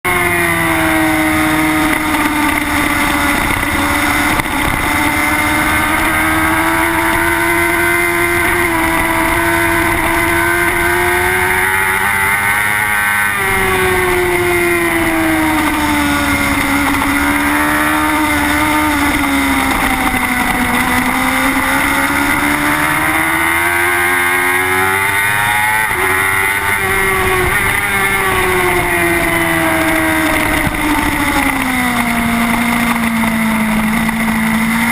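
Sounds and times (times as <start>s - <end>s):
motorcycle engine at racing speed: 0.0s - 34.9s.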